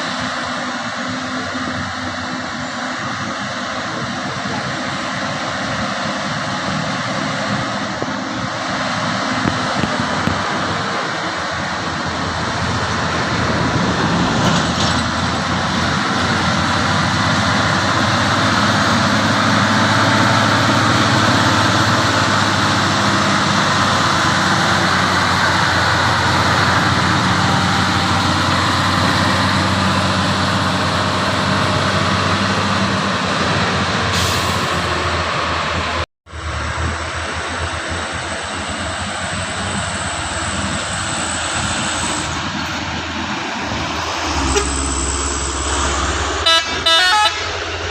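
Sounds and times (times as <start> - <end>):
road and wind noise: 0.0 - 47.9
truck diesel engine running: 0.0 - 47.9.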